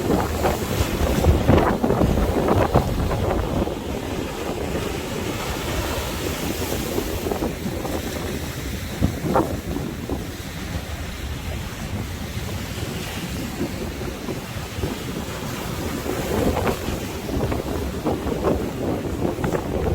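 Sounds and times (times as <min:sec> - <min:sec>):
sea waves washing: 0:00.0 - 0:19.9
wind buffeting microphone: 0:00.0 - 0:19.9.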